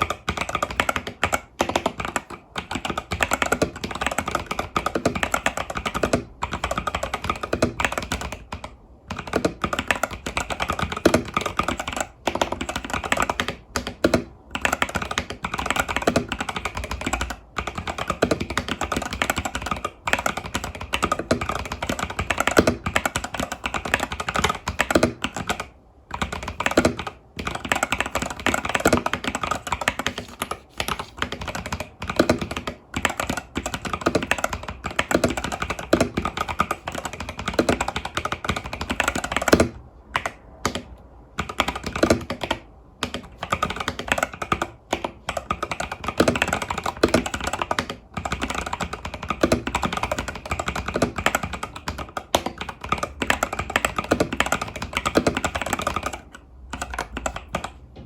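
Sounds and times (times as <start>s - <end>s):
fast mechanical keyboard typing: 0.0s - 58.0s.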